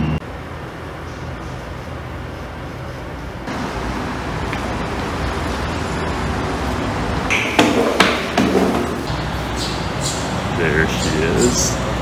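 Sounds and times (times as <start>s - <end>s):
elevator hum: 0.0s - 12.0s
traffic rumble in parking garage: 0.0s - 12.0s.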